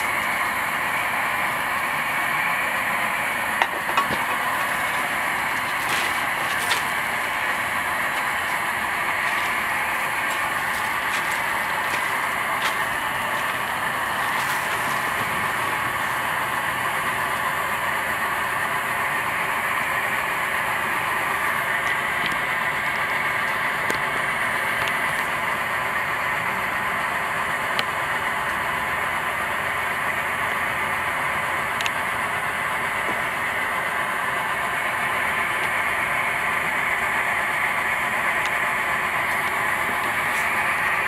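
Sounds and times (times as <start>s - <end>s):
kerosene burner hissing: 0.0s - 41.0s.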